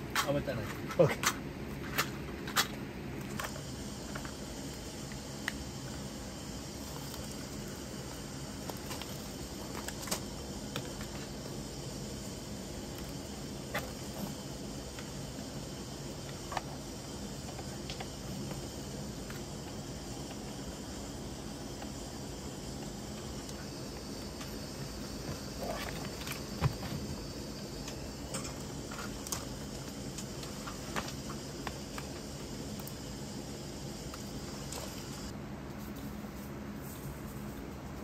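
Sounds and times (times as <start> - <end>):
outdoor ambience: 0.0 - 38.0.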